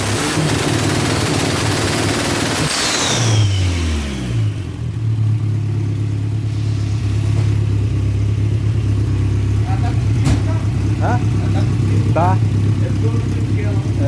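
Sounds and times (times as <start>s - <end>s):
car engine revving then idling: 0.0s - 14.0s.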